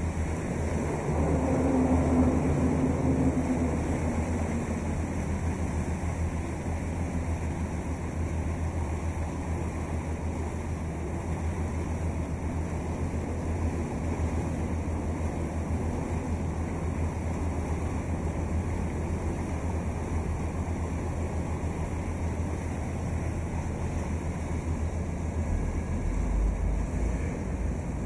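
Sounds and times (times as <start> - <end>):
boat engine rumbling: 0.0 - 28.0
water noise: 0.0 - 28.0.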